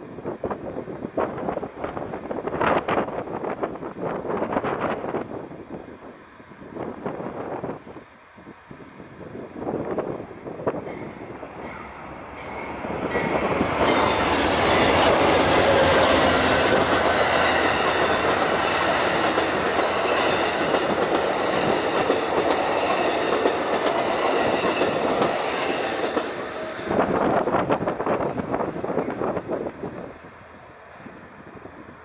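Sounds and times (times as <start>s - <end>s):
train wheels rushing on rail: 0.0s - 32.0s
wind gusts on microphone: 0.0s - 32.0s.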